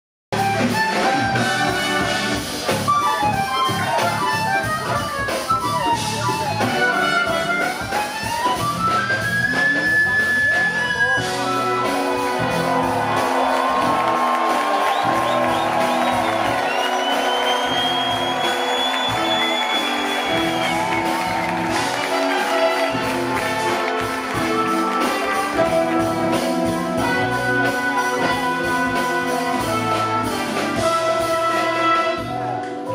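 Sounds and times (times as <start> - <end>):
jazz fusion band playing: 0.3 - 32.9
harmonica melody: 0.4 - 32.4.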